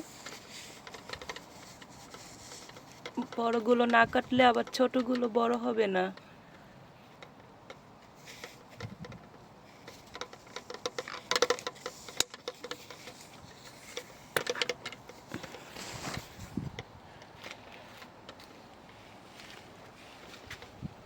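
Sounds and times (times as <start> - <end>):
leaves and stems rustling: 0.0 - 21.0.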